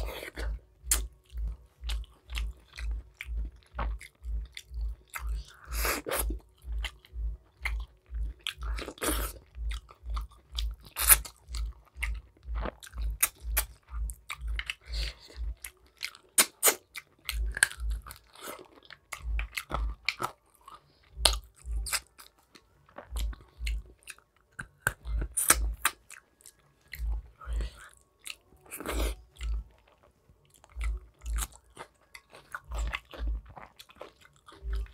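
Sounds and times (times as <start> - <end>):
close chewing with mouth smacks: 0.0 - 34.9.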